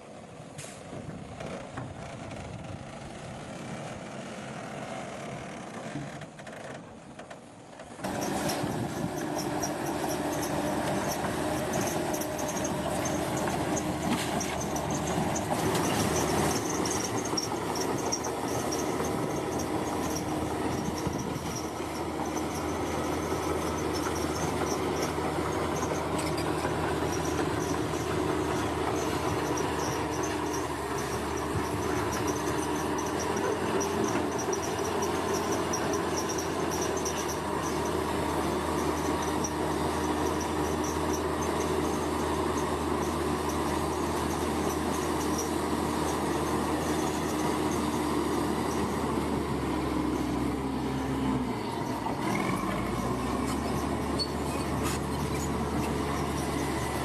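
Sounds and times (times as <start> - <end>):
bulldozer diesel engine: 0.0 - 57.0
insects chirring: 8.1 - 50.5, 51.8 - 57.0.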